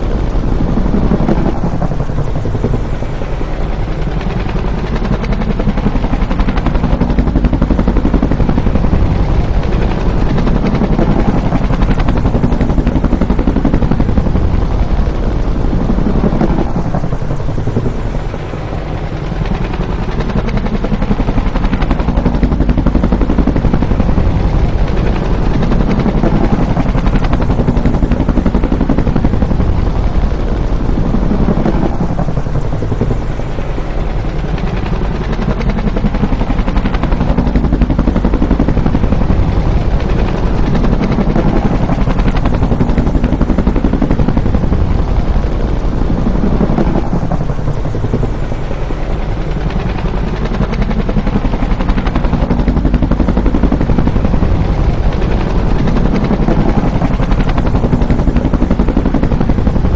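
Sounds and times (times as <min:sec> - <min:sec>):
helicopter rotor beating: 0:00.0 - 0:59.9.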